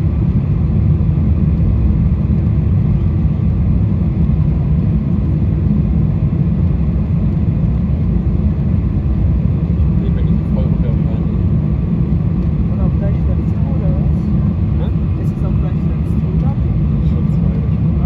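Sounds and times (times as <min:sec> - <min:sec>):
airliner cabin engine roar: 0:00.0 - 0:18.0.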